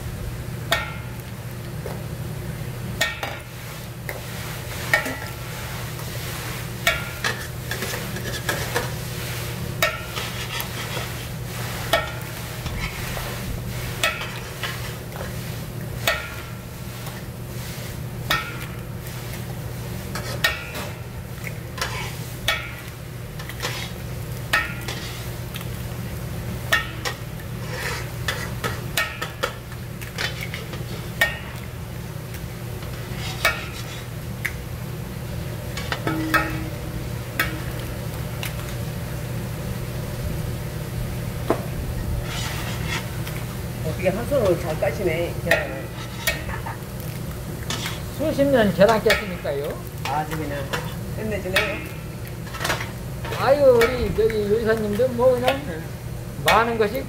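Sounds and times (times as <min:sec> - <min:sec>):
batter sizzling on griddle: 0:00.0 - 0:57.0.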